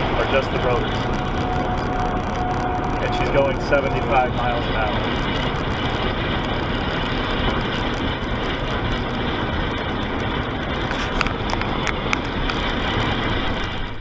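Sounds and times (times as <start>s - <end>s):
road and wind noise in car: 0.0s - 14.0s.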